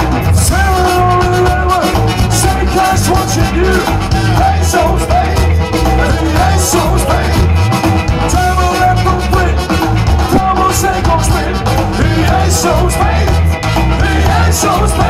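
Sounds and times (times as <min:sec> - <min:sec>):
drums and cymbal hits: 0:00.0 - 0:15.0
electric guitars: 0:00.0 - 0:15.0
pulsing bass line: 0:00.0 - 0:15.0
trumpet: 0:00.0 - 0:15.0.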